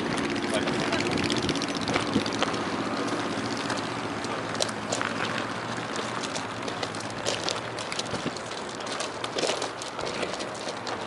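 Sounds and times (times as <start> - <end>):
footsteps on gravel: 0.0 - 11.0
outdoor background rush: 0.0 - 11.0.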